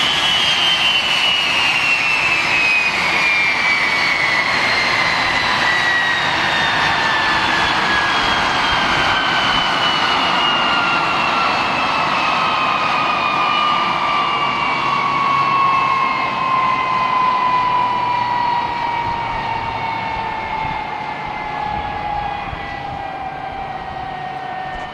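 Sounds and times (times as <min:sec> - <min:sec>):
jet turbine whine: 0:00.0 - 0:24.9.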